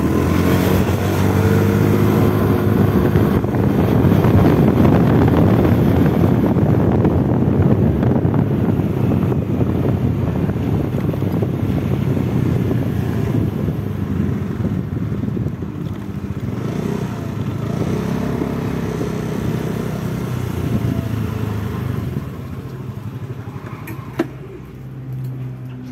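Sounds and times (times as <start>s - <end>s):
motorcycle engine running: 0.0s - 25.9s
tyre and road noise: 0.0s - 25.9s.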